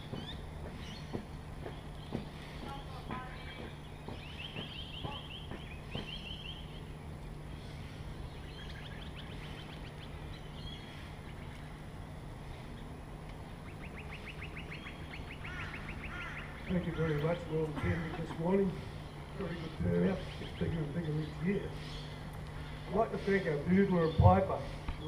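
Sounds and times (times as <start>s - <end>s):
birds chattering: 0.0s - 25.0s
steady low hum: 0.0s - 25.0s.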